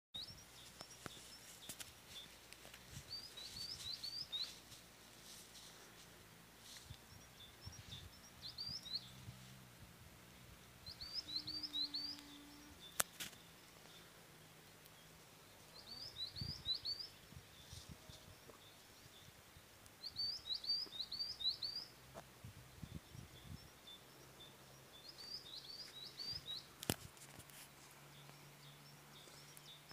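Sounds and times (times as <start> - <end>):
small bird chirping: 0.1 - 5.7, 6.6 - 9.5, 10.8 - 14.1, 15.7 - 19.3, 19.9 - 29.9.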